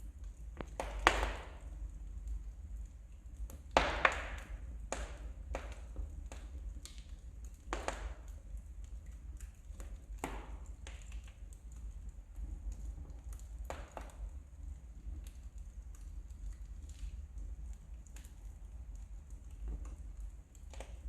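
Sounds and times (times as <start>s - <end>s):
logs crackling and popping: 0.0s - 21.0s
low fire rumble: 0.0s - 21.0s.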